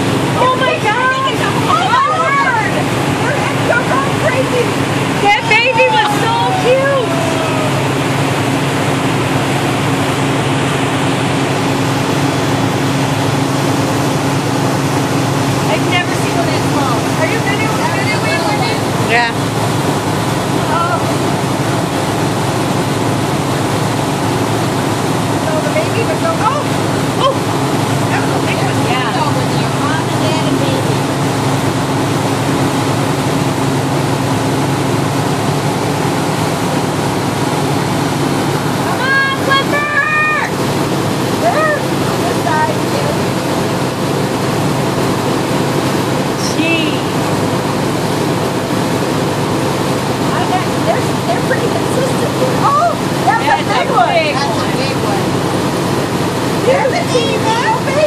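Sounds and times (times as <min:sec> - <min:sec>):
motorboat engine humming: 0:00.0 - 0:58.0
water rushing in wake: 0:00.0 - 0:58.0.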